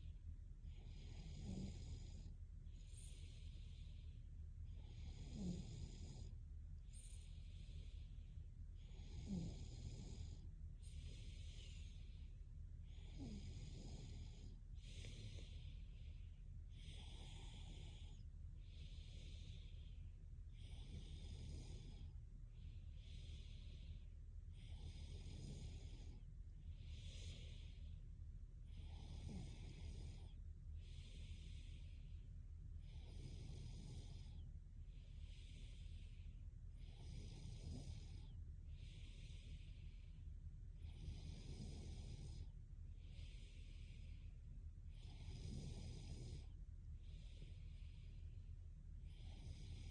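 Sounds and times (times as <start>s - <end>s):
low steady hum: 0.0s - 49.9s
woman breathing in sleep: 0.0s - 49.9s.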